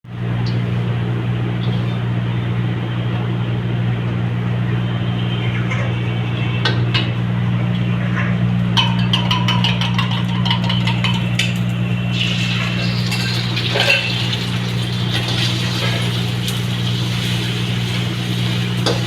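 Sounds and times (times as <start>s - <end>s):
wok burner blower roaring: 0.1s - 19.0s.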